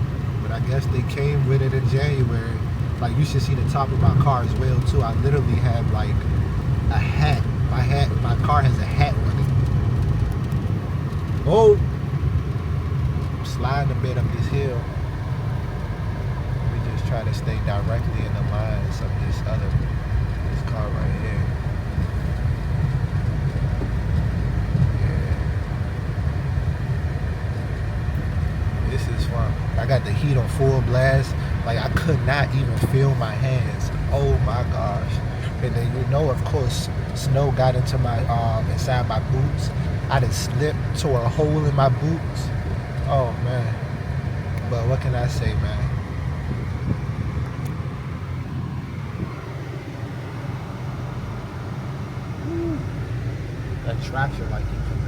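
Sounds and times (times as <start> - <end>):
car engine rumble: 0.0 - 55.0
tyres on slushy road: 0.0 - 55.0.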